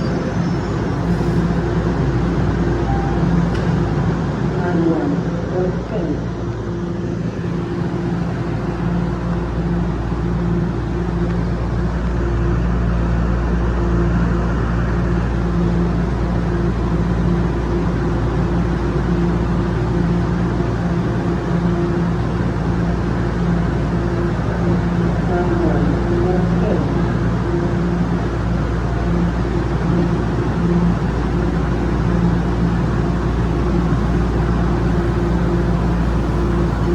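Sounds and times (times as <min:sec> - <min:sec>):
subway train rumbling: 0:00.0 - 0:36.9.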